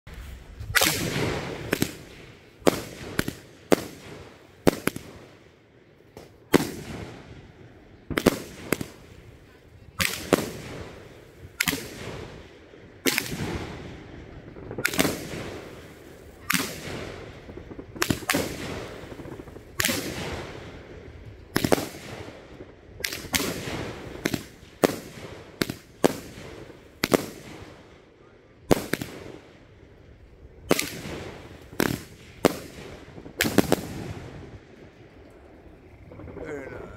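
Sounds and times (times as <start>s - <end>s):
fireworks bangs: 0.1s - 36.9s.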